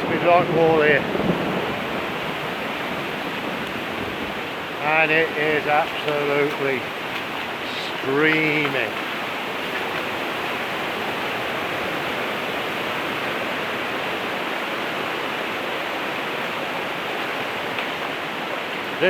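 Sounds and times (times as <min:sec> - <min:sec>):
rushing river water: 0:00.0 - 0:19.0.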